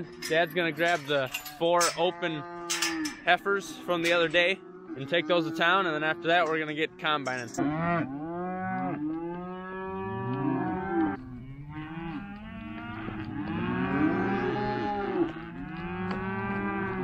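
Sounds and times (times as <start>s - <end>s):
calves bawling: 0.0s - 17.0s.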